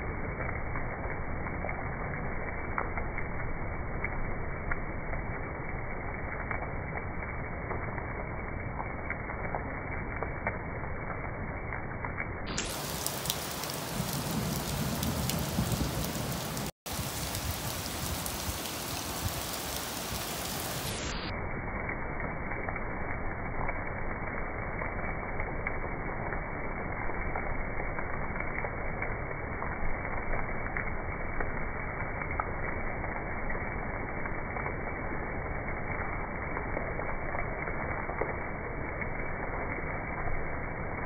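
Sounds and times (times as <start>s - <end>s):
small crackles and ticks: 0.0s - 41.0s.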